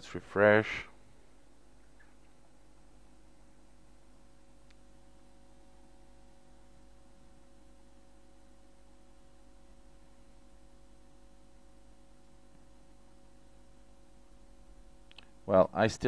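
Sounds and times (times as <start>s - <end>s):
electrical hum with held tones: 0.0s - 16.0s
low hiss: 0.0s - 16.0s.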